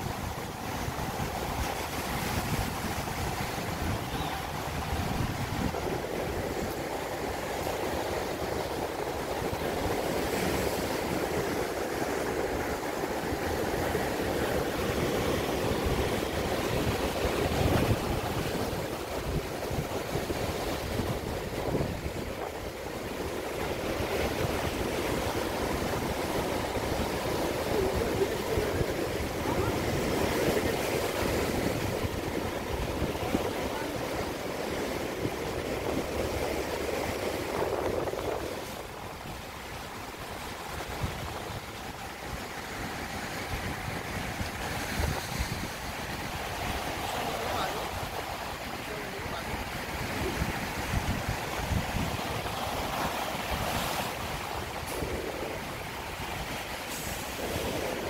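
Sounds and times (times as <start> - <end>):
surf washing over rocks: 0.0 - 58.0.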